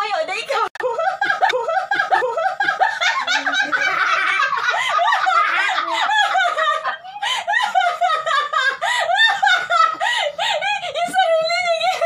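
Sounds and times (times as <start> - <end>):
women laughing: 0.8 - 12.0.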